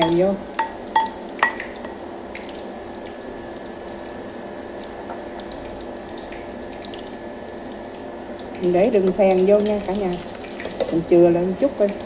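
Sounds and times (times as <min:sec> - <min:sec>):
electric cooktop whirring and humming: 0:00.0 - 0:12.0.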